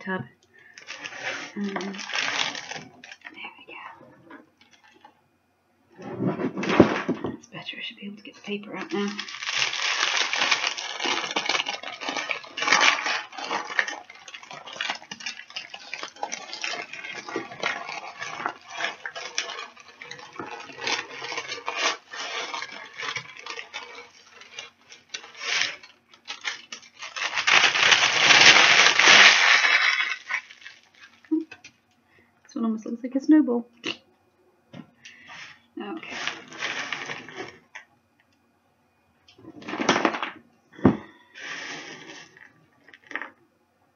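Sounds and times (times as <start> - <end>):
baking paper crackling: 0.0 - 4.0, 6.0 - 31.7, 35.1 - 37.8, 39.4 - 43.4.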